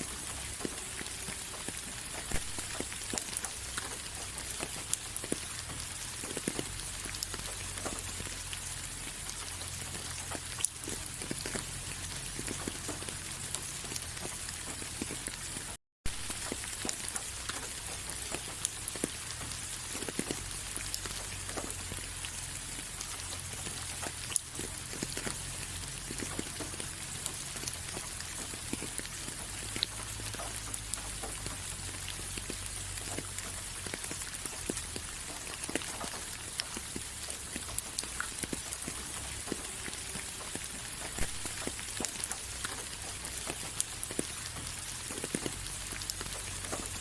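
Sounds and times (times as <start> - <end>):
rain falling: 0.0 - 47.0
raindrops pattering: 0.0 - 47.0.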